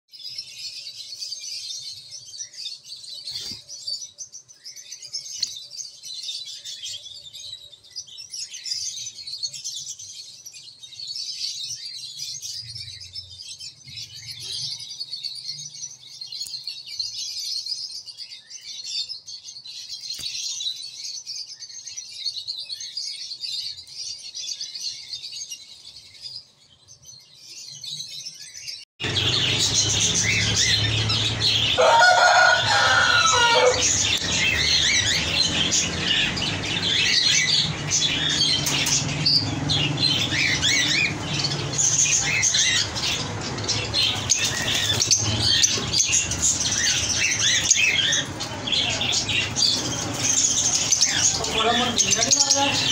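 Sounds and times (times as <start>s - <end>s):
lovebirds chirping and chattering: 0.1s - 52.9s.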